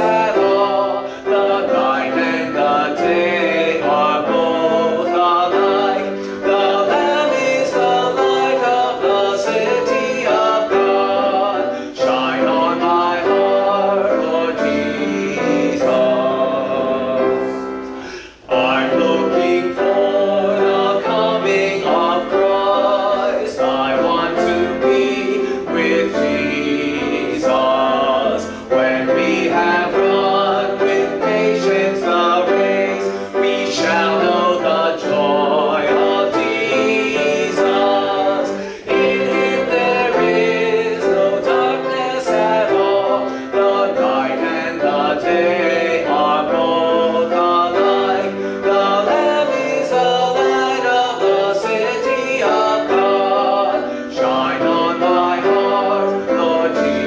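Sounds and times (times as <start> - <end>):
grand piano accompaniment: 0.0 - 57.0
person singing worship song: 0.0 - 57.0.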